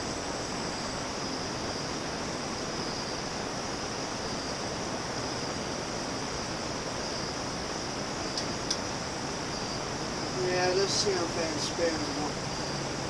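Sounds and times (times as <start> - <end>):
ceiling fan whooshing: 0.0 - 13.0
high-pitched insect drone: 0.0 - 13.0.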